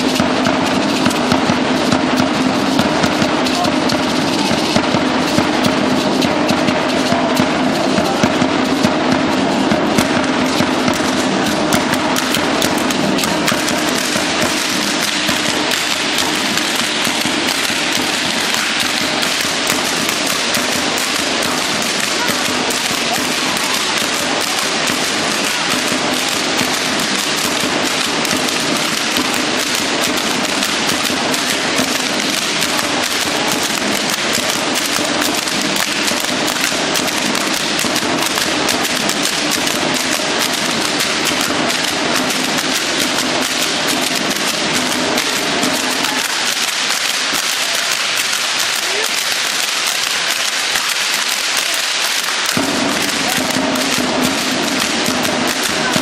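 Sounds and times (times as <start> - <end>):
hand rattles shaking: 0.0 - 56.0.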